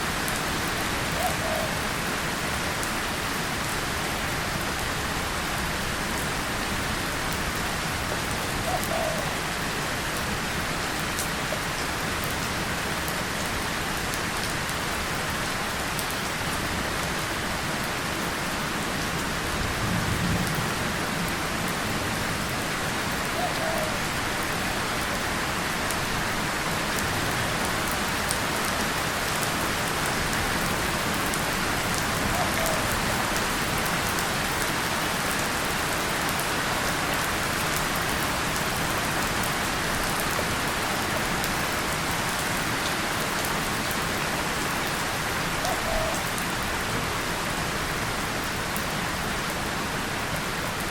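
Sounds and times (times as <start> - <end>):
rain on tin and leaves: 0.0 - 50.9.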